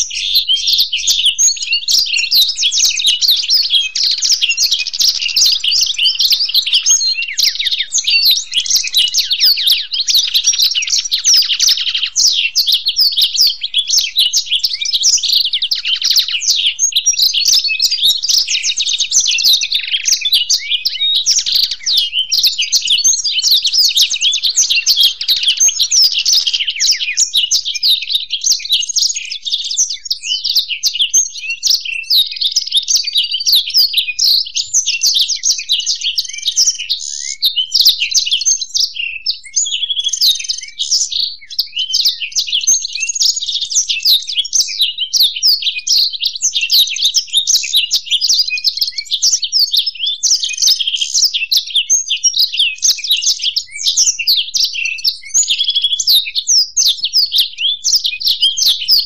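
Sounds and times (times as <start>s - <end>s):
songbirds twittering and trilling: 0.0s - 59.0s.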